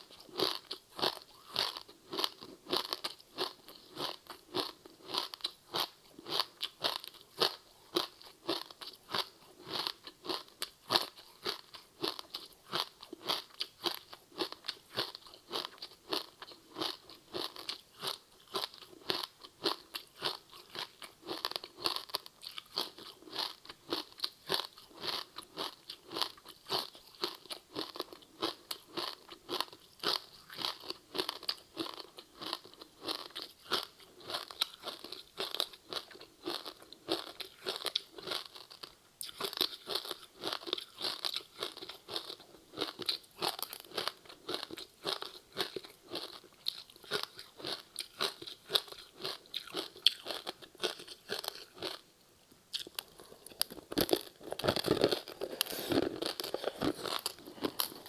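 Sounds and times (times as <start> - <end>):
crunchy snack chewing: 0.0 - 52.1, 52.7 - 58.0.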